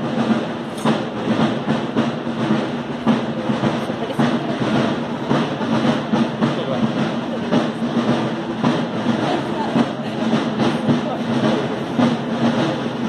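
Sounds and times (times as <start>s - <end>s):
drums beating: 0.0s - 13.0s
music: 0.0s - 13.0s.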